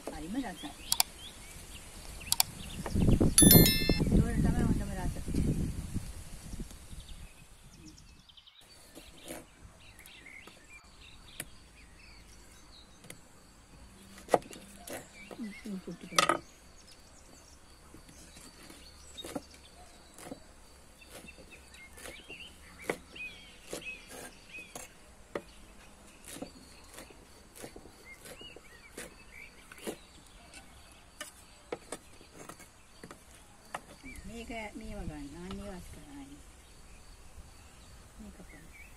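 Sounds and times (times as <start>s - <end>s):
birds chirping faintly: 0.0s - 5.7s, 6.6s - 38.9s.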